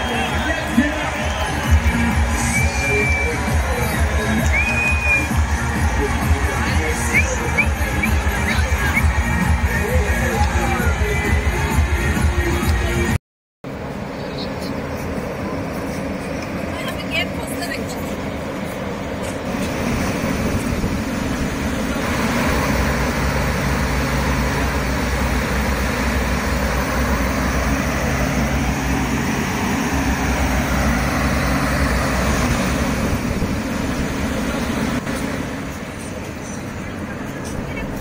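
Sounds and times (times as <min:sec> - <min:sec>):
water generator air rush and hum: 0:00.0 - 0:38.0.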